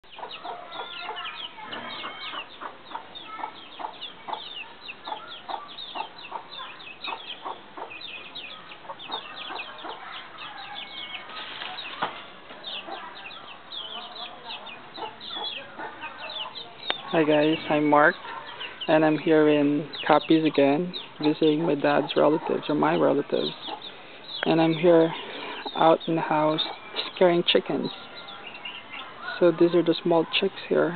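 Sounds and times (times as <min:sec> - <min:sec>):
chicks peeping: 0:00.0 - 0:30.9
hens clucking: 0:00.0 - 0:30.9.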